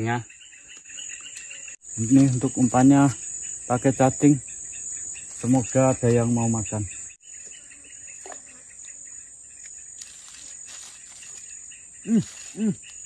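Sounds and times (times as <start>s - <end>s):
insects chirping and droning: 0.0s - 13.0s.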